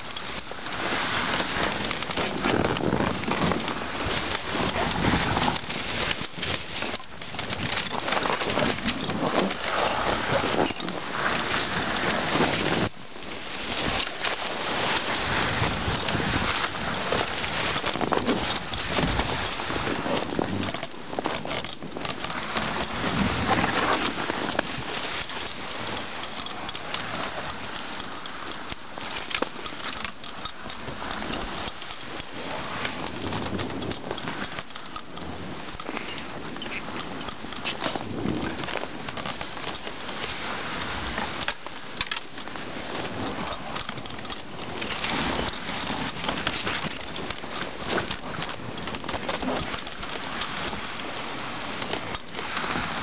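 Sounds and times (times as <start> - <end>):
sled crackling and knocking: 0.0 - 53.0
sled runners crunching over snow: 0.0 - 53.0.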